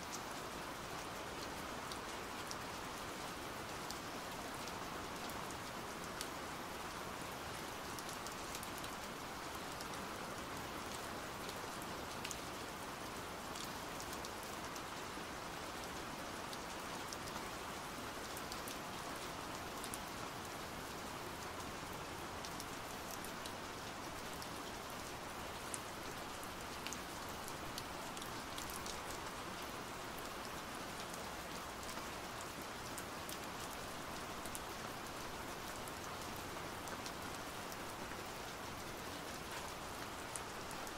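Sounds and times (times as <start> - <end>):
pouring rain: 0.0 - 40.9.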